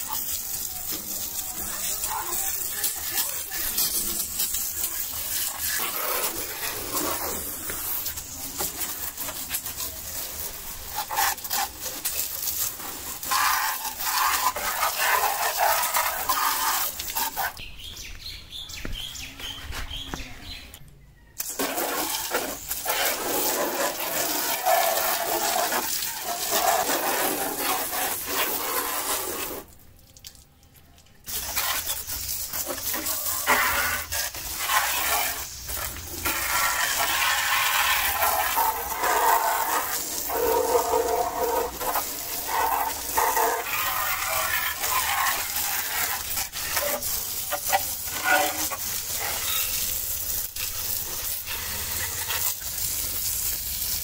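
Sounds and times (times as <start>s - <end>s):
water gun spraying: 0.0s - 17.7s, 21.4s - 29.8s, 31.2s - 54.0s.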